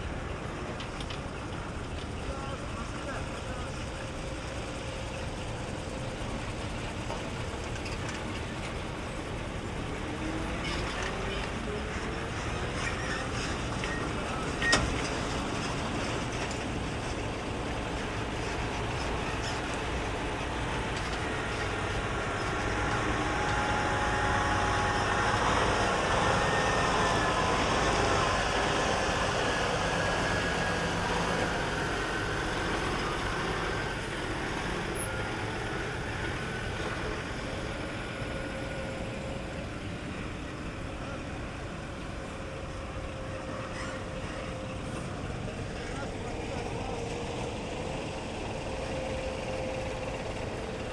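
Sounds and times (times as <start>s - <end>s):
truck engines running: 0.0s - 50.9s.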